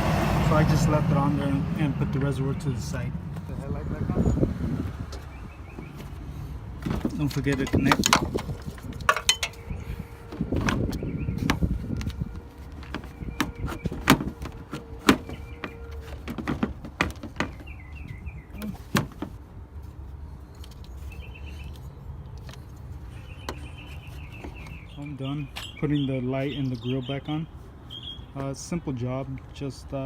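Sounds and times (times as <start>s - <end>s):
birds chirping faintly: 1.4s - 19.3s, 20.0s - 29.0s.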